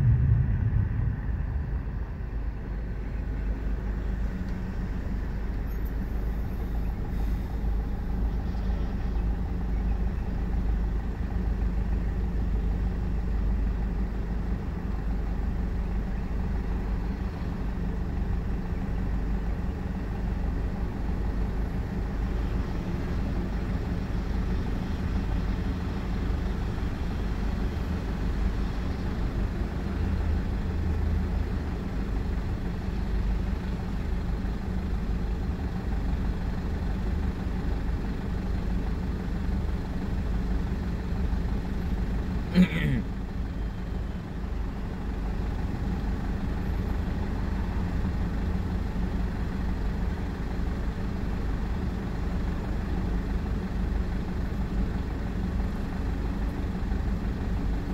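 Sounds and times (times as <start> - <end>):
car engine hum inside cabin: 0.0 - 57.9.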